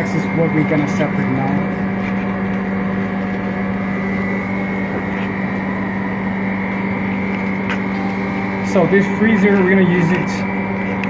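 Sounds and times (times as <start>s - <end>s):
freezer machine hum: 0.0s - 11.0s.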